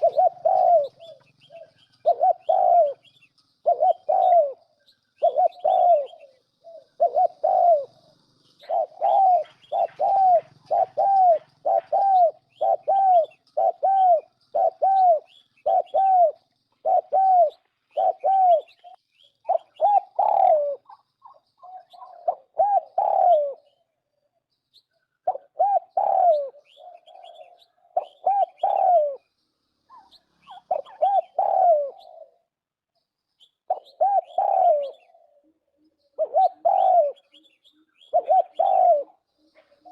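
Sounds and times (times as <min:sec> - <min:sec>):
turtle dove cooing: 0:00.0 - 0:24.3, 0:25.0 - 0:32.6, 0:33.6 - 0:39.9.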